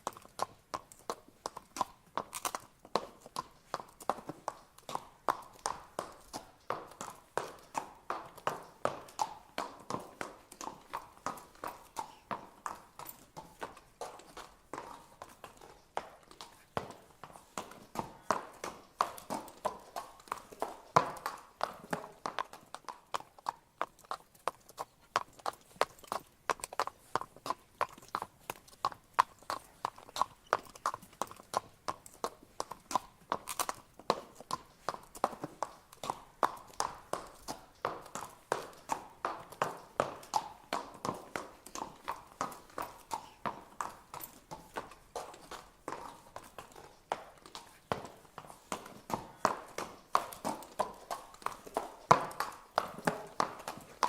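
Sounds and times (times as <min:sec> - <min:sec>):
horse hooves clip-clopping: 0:00.0 - 0:54.0.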